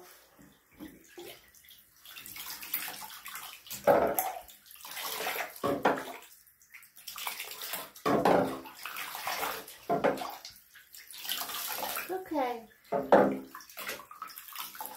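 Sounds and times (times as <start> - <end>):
water pouring and splashing: 0.0 - 14.9.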